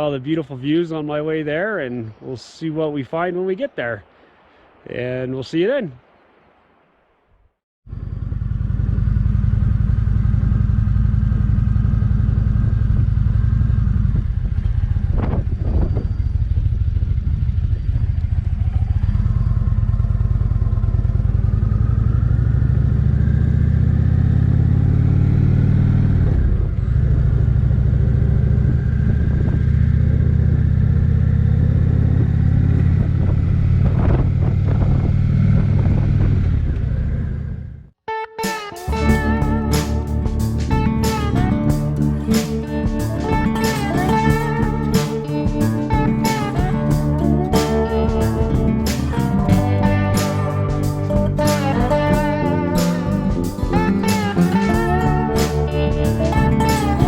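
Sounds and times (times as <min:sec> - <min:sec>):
motorcycle engine running: 0:07.8 - 0:37.9, 0:38.9 - 0:57.0.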